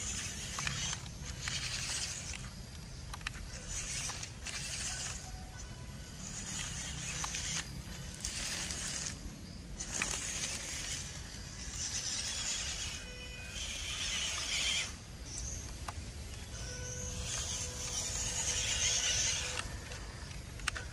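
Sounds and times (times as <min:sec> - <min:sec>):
toy car motor and gears whining: 0:00.0 - 0:20.9.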